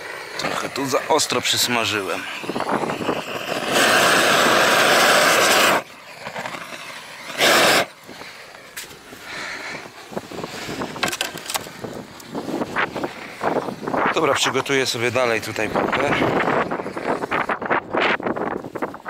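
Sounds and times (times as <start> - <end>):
roofing torch blast: 0.0 - 19.0.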